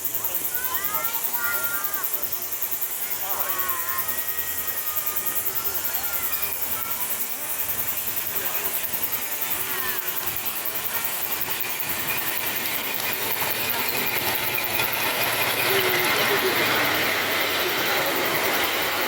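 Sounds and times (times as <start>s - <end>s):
steam locomotive exhaust beating: 0.0s - 19.0s.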